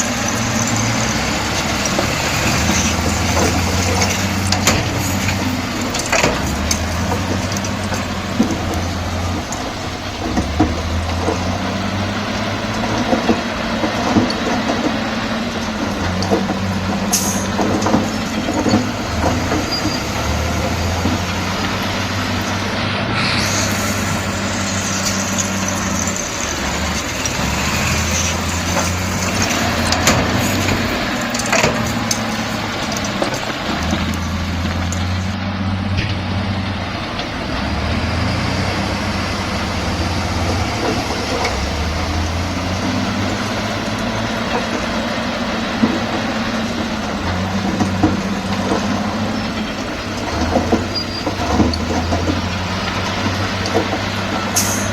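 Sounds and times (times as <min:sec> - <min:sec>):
bulldozer diesel engine working: 0:00.0 - 0:54.9.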